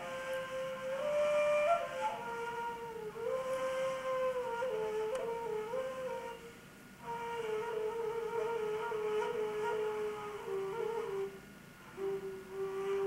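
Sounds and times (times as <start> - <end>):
reed flute melody: 0.0 - 13.0.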